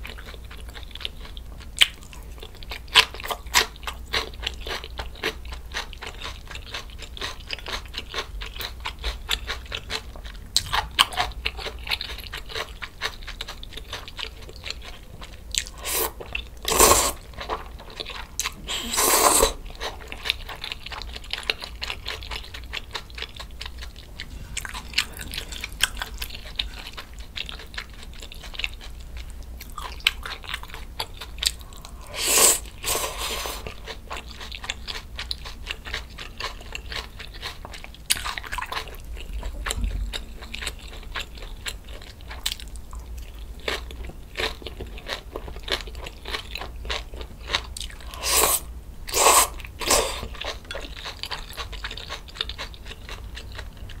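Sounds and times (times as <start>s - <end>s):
person chewing and eating: 0.0s - 54.0s.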